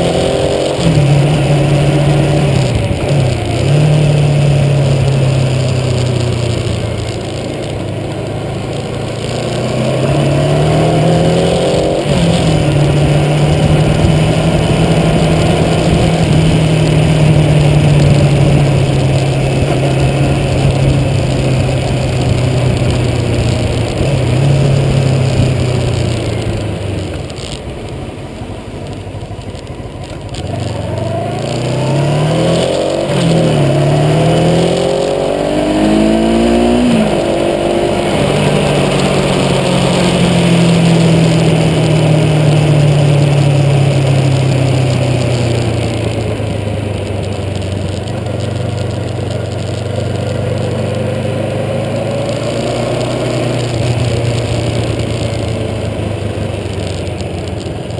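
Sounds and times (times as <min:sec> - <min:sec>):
engine idling and revving: 0:00.0 - 0:57.9.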